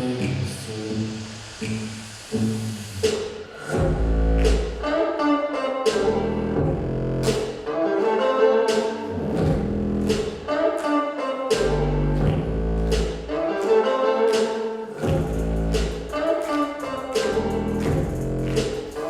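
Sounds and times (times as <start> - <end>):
instrumental dance music: 1.0 - 19.0.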